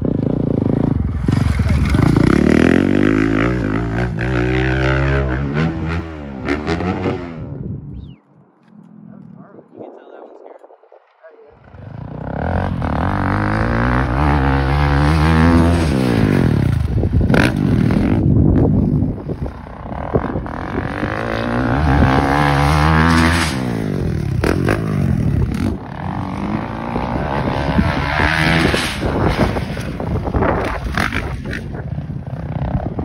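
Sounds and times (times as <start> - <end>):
dirt bike engine revving: 0.0 - 7.7, 11.5 - 33.0.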